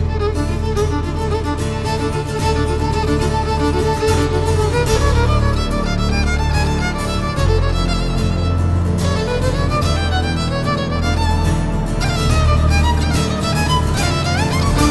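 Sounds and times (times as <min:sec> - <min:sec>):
bass guitar: 0:00.0 - 0:14.9
guitar accompaniment: 0:00.0 - 0:14.9
violin melody: 0:00.0 - 0:14.9.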